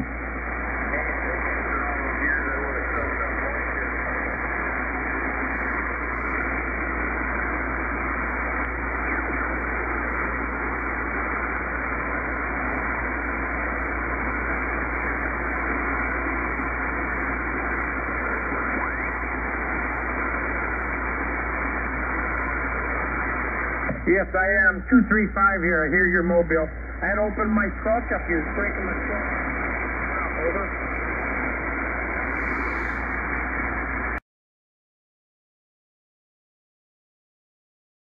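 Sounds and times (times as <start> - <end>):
low hum: 0.0 - 34.2
radio static hiss: 0.0 - 34.2.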